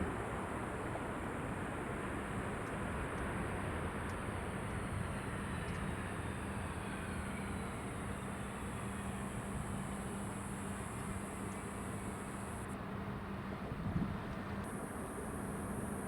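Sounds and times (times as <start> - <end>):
jet airliner engine drone: 0.0 - 16.0.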